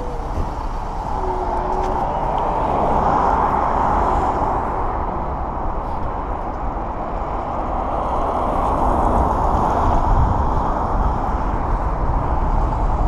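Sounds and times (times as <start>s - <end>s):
city traffic passing: 0.0s - 13.0s
electric scooter rolling on asphalt: 0.0s - 13.0s
wind rumble on microphone: 0.0s - 13.0s.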